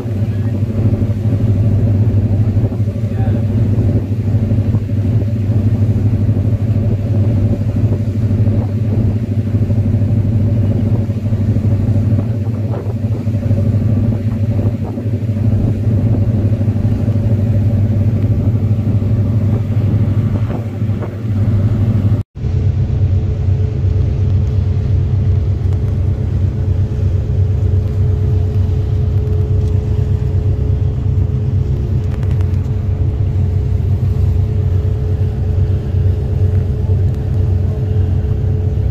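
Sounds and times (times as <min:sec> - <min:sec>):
boat engine drone: 0:00.0 - 0:38.9.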